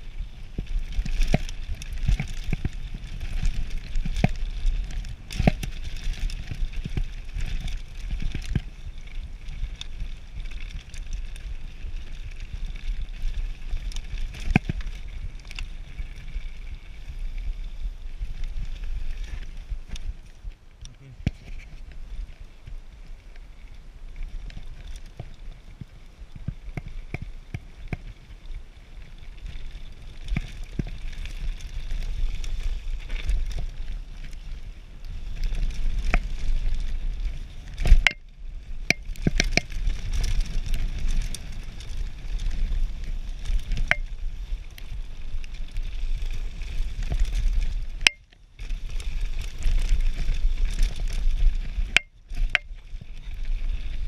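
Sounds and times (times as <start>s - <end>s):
bike clicks and rattles: 0.0s - 54.0s
bike tyres rumbling on dirt: 0.0s - 54.0s.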